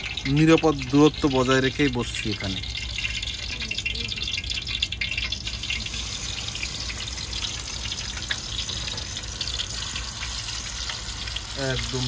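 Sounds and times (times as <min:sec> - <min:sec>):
fish deep-frying in hot oil: 0:00.0 - 0:12.0.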